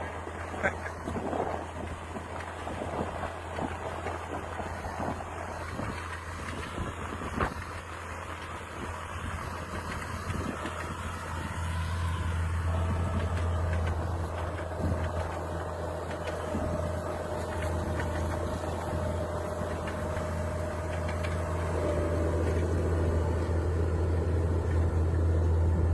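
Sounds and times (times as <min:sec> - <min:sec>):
steady whine: 0:00.0 - 0:25.9
tractor diesel engine running: 0:00.0 - 0:25.9.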